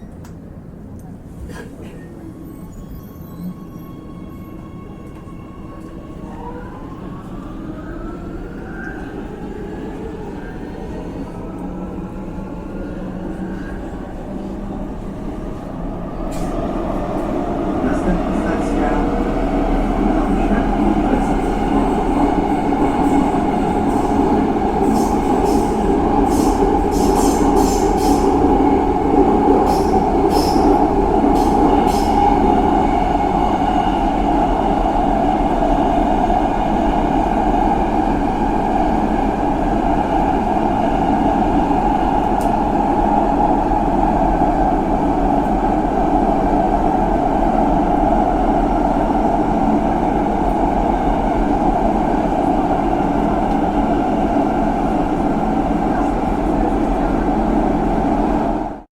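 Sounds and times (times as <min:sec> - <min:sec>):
subway train rumbling: 0:00.0 - 0:58.9.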